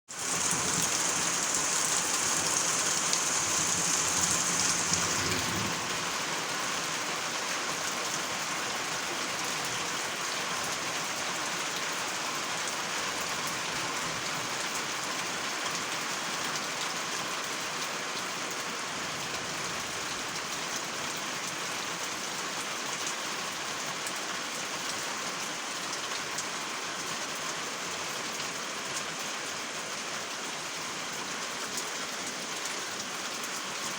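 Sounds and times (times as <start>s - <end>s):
rain pattering: 0.1s - 33.9s.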